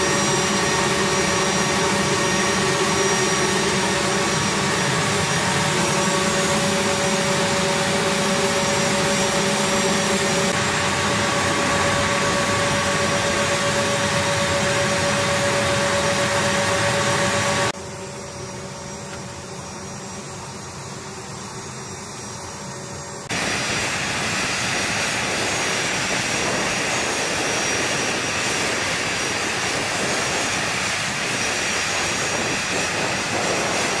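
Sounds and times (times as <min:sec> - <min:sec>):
jet engines idling: 0:00.0 - 0:34.0.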